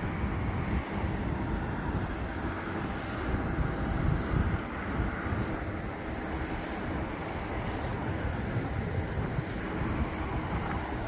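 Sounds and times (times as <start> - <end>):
distant jet engines rumbling: 0.0 - 11.0.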